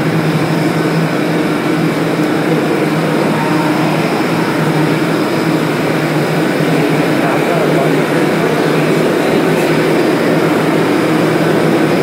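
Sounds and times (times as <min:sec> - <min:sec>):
subway train droning hum: 0:00.0 - 0:12.0.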